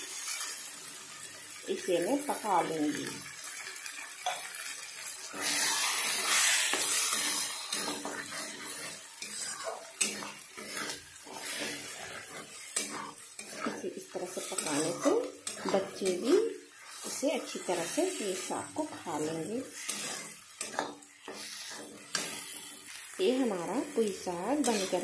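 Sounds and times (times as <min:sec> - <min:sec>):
sizzling from hot pan: 0:00.0 - 0:25.0
metal spatula scraping a pan: 0:03.0 - 0:25.0.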